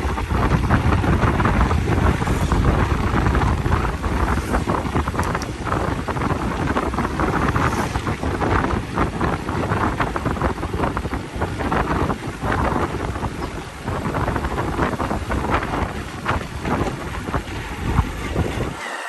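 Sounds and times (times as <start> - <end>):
wind buffeting microphone: 0.0 - 18.8
diesel engine running: 0.0 - 19.0.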